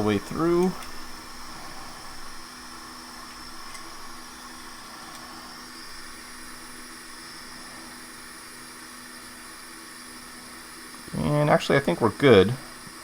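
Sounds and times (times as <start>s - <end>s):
airflow hiss: 0.0s - 13.0s
fan hum: 0.0s - 13.0s.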